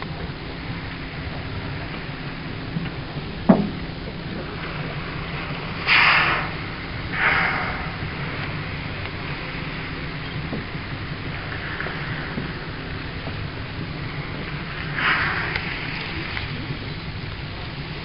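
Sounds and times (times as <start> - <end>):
boat engine hum: 0.0 - 18.0
whale blowing: 0.5 - 17.3.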